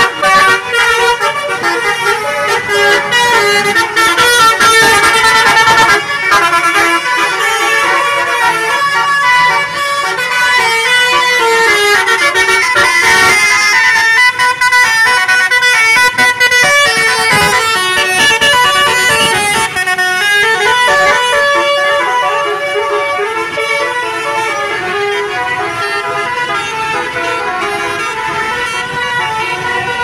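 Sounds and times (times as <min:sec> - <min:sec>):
multi-tone musical bus horn: 0:00.0 - 0:30.0.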